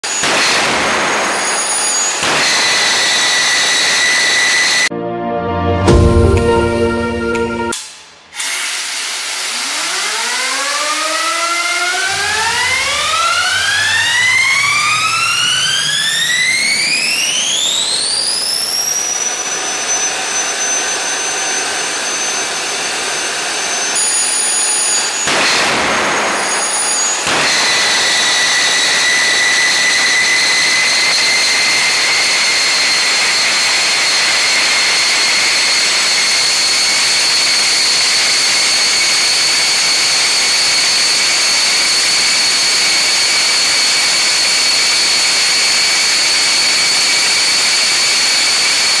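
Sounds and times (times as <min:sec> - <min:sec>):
jet engine whine: 0:00.0 - 0:49.0.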